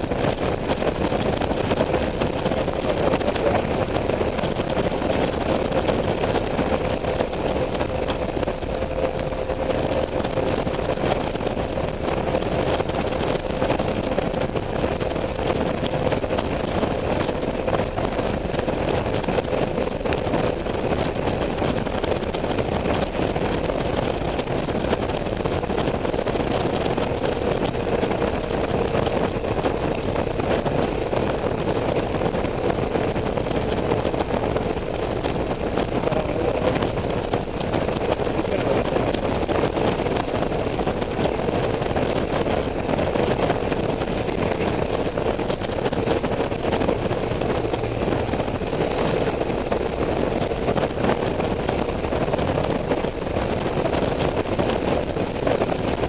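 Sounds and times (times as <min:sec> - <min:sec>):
motorcycle engine drone: 0:00.0 - 0:56.0
wind and road noise: 0:00.0 - 0:56.0.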